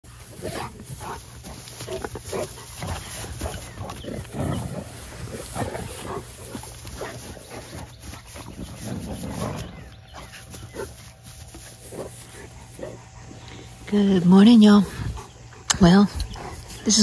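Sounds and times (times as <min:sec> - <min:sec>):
dogs growling: 0:00.1 - 0:17.0.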